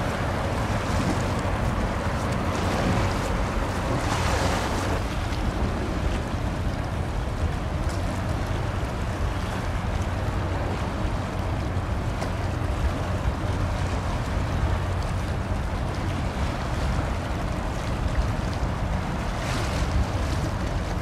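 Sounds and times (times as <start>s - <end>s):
ship engines droning: 0.0s - 21.0s
water washing: 0.0s - 21.0s
wind on microphone: 0.0s - 21.0s.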